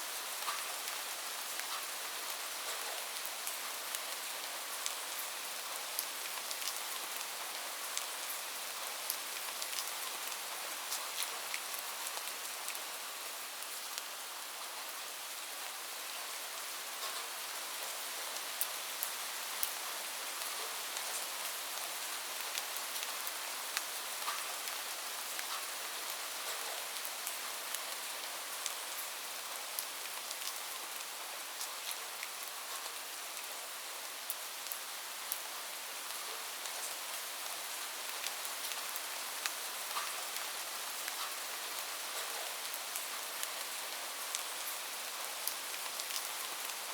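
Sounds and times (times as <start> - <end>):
light rain falling: 0.0 - 46.9
raindrops ticking on a surface: 0.2 - 14.1, 17.0 - 33.6, 34.2 - 46.9.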